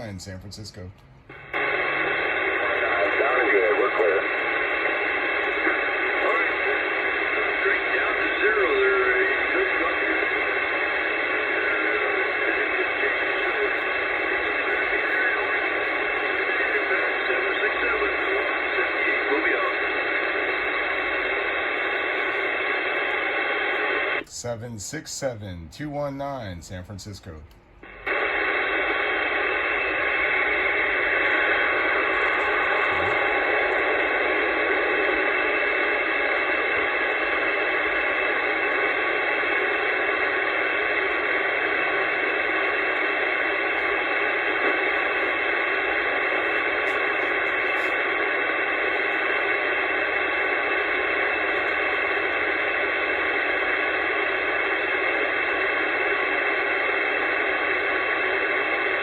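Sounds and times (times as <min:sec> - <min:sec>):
faint steady tones: 0:00.0 - 0:59.0
radio static hiss: 0:00.0 - 0:59.0.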